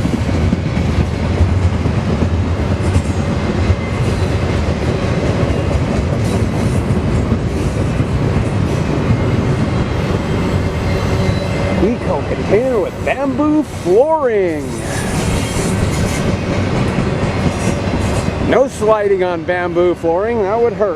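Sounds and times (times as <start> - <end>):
freight train wheels rumbling: 0.0 - 20.9.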